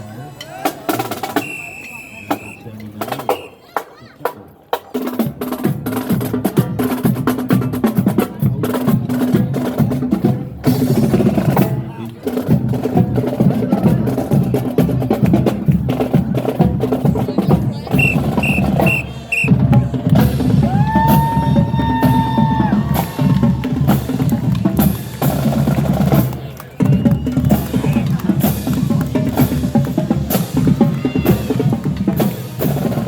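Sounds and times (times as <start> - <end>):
marching drum cadence: 0.4 - 33.0.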